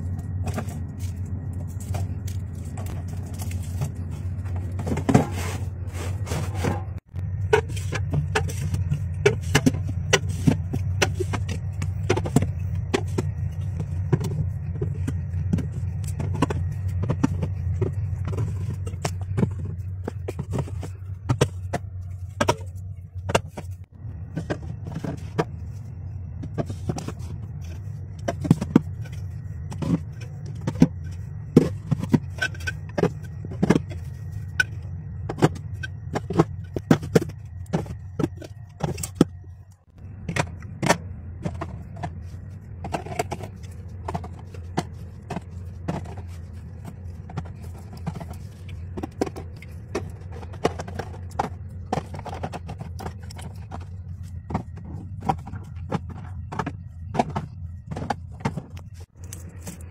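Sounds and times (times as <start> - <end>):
fridge humming: 0.0 - 59.9.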